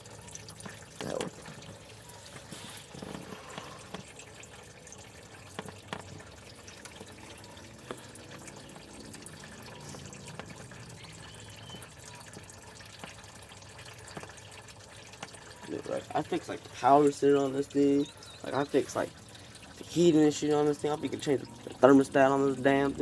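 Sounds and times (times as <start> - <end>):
coolant trickling into a bucket: 0.0 - 23.0
scattered drips: 0.0 - 23.0.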